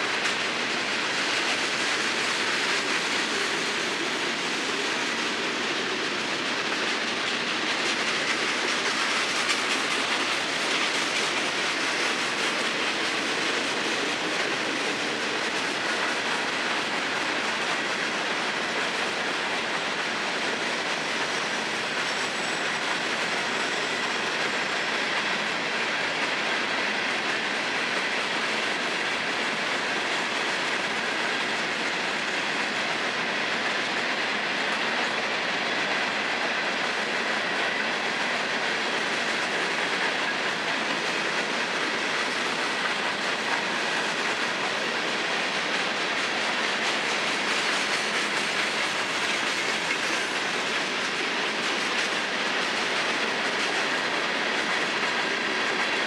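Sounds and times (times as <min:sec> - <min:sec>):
steel wheels running on rails: 0:00.0 - 0:56.0.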